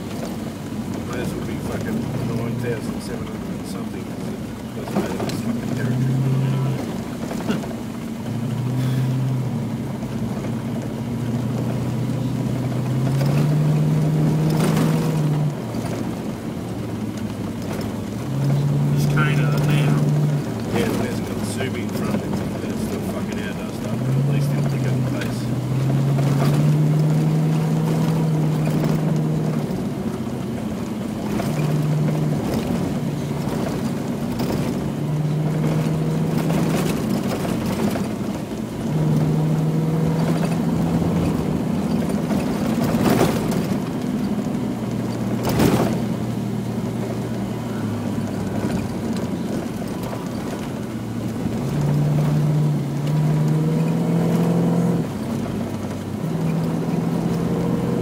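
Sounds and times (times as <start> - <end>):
car engine from inside cabin: 0.0 - 58.0
road noise: 0.0 - 58.0
sharp knocks from rough road: 0.0 - 58.0.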